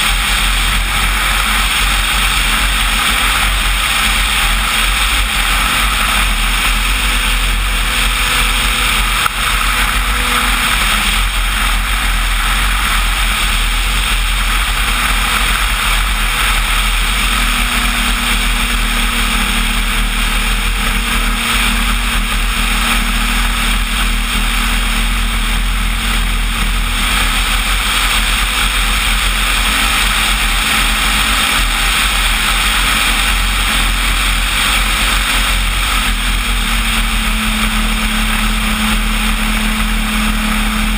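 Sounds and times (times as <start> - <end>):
low motor hum: 0.0 - 40.9
wind and propeller rush: 0.0 - 40.9.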